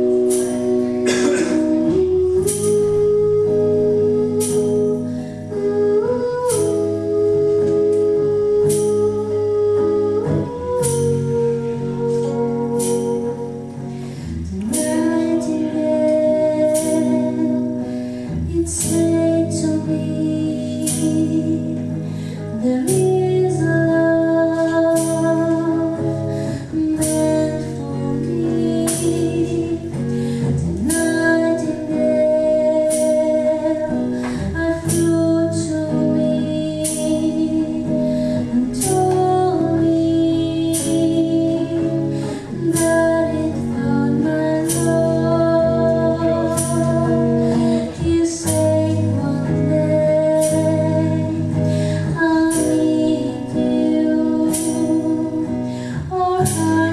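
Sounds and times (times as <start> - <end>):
plucked acoustic guitar: 0.0 - 56.9
woman singing: 0.0 - 56.9.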